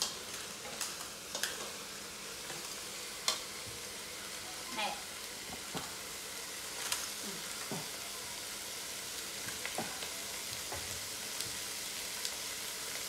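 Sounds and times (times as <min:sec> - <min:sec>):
food sizzling in pot: 0:00.0 - 0:13.0.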